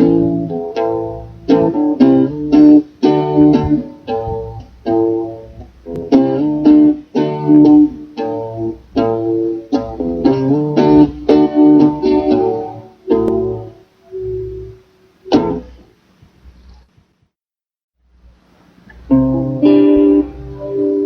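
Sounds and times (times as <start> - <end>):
guitar strumming chords: 0.0 - 15.9, 18.9 - 21.0.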